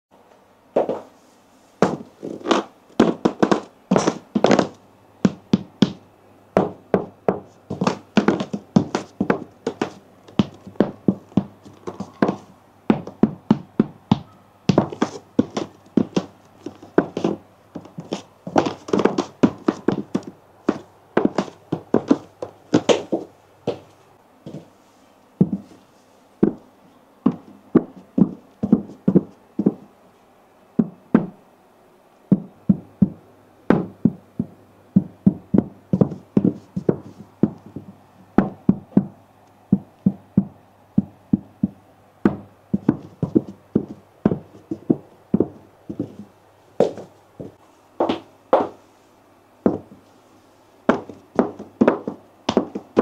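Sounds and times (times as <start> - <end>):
heel clicks and knocks: 1.8 - 6.0, 6.6 - 23.8, 25.4 - 25.7, 27.3 - 29.8, 30.8 - 31.4, 32.3 - 39.1, 39.7 - 48.8, 49.6 - 49.9, 50.9 - 53.0.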